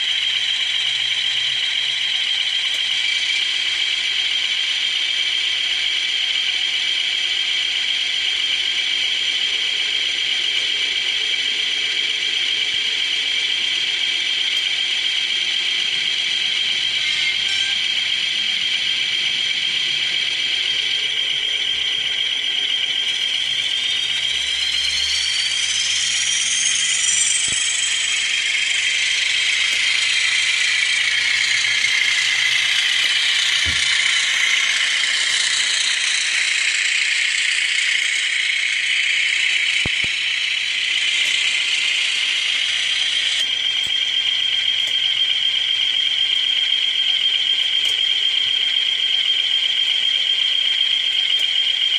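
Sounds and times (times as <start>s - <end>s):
tinny diesel engine sound from speaker: 2.7s - 51.9s.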